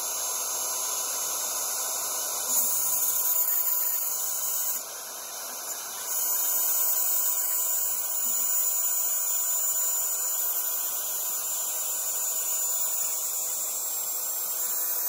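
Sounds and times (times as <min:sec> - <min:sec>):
router spindle whine cutting metal: 0:00.0 - 0:15.0.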